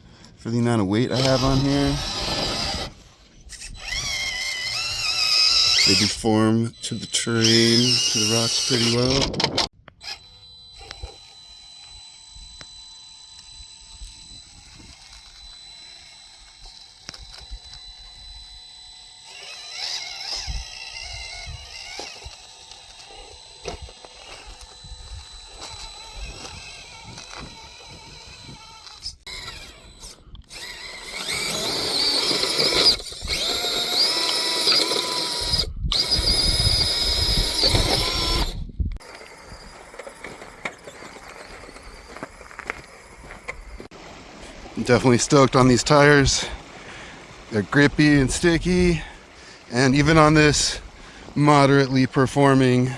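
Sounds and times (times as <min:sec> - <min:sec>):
small electric motor whining: 0:00.0 - 0:52.9.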